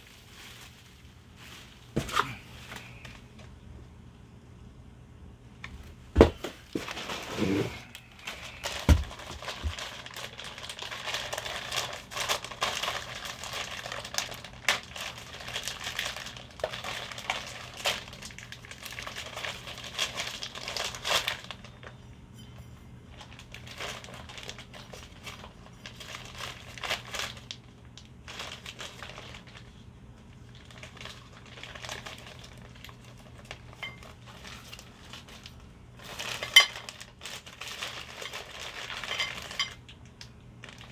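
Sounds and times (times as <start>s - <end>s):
packing material crinkling: 0.0s - 3.4s, 6.2s - 21.9s, 23.1s - 40.9s.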